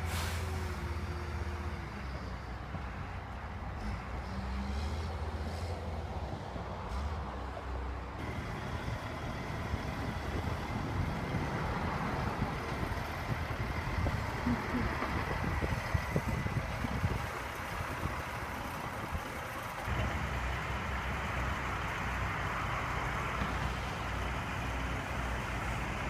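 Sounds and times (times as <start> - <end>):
heavy diesel engines droning: 0.0 - 26.0.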